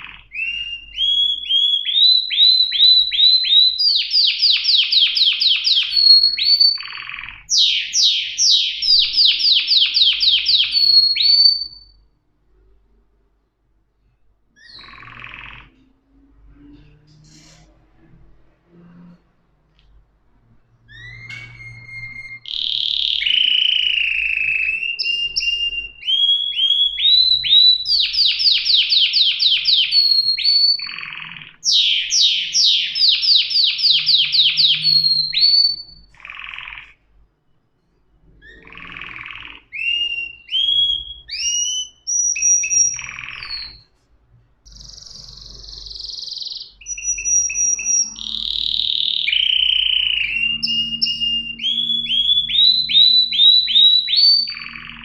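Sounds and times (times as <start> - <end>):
canary singing: 0.0 - 12.7, 14.5 - 18.1, 20.8 - 44.0, 44.6 - 55.0.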